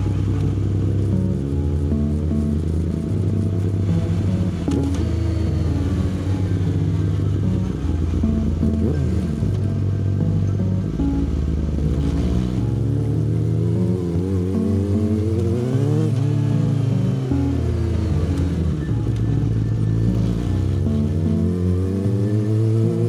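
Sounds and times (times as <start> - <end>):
background music: 0.0 - 23.0
motorcycle engine accelerating: 0.0 - 23.0.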